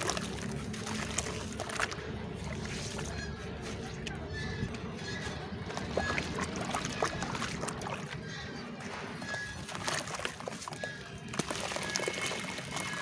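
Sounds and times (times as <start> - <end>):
water sloshing: 0.0 - 13.0.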